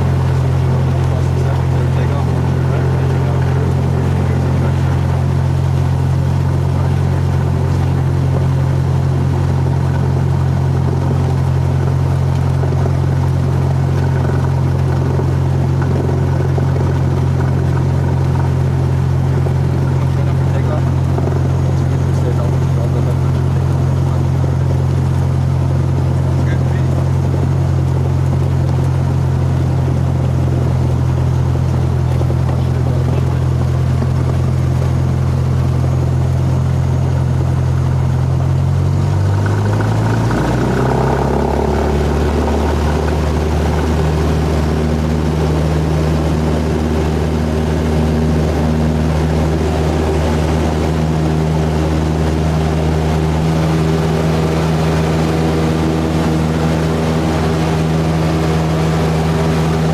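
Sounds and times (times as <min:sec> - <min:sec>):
airplane engine and propeller droning: 0:00.0 - 0:59.9.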